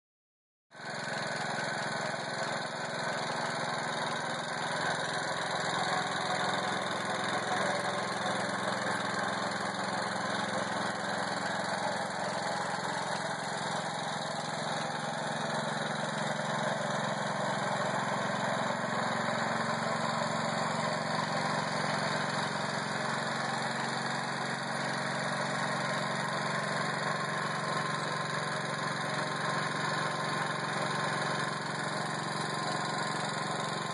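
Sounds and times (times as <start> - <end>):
small engine idling: 0.7 - 33.9.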